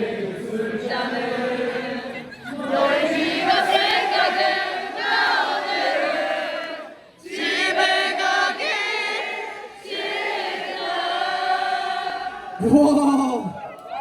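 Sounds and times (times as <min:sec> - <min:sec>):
crowd singing pop song: 0:00.0 - 0:13.6.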